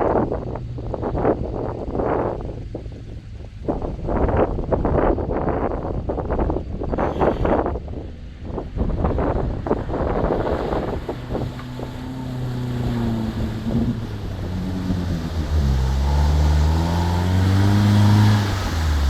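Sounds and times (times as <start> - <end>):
gusty splashing rush: 0.0 - 19.0
off-road vehicle engine under load: 0.0 - 19.0.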